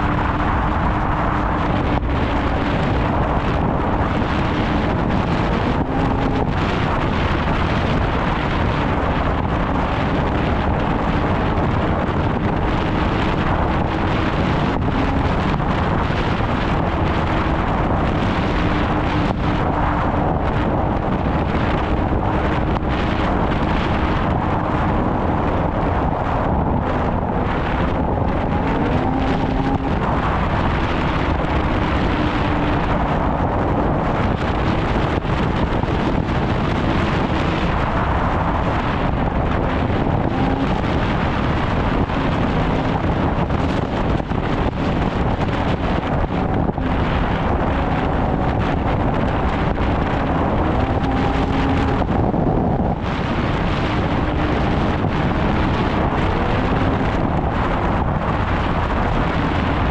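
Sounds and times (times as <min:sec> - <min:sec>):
snowmobile engine running: 0:00.0 - 0:59.9
wind buffeting microphone: 0:00.0 - 0:59.9.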